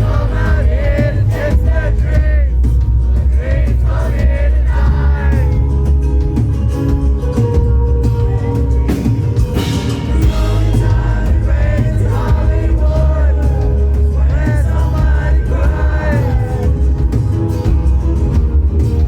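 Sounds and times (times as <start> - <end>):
live country rock band: 0.0 - 19.0
sliding lead melody: 0.0 - 19.0.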